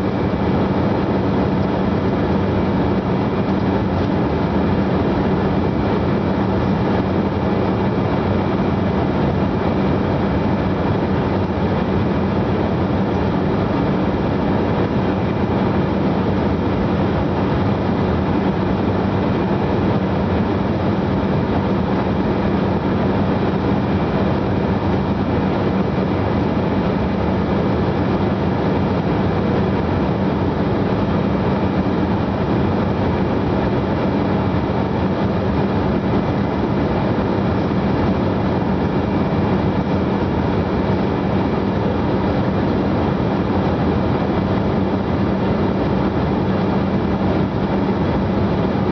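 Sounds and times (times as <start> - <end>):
constant low hum: 0.0 - 48.9
jet airliner cabin noise: 0.0 - 48.9.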